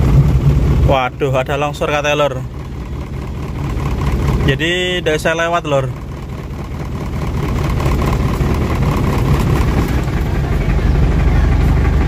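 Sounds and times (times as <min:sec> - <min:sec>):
vehicle engine rumbling at low revs: 0:00.0 - 0:12.0.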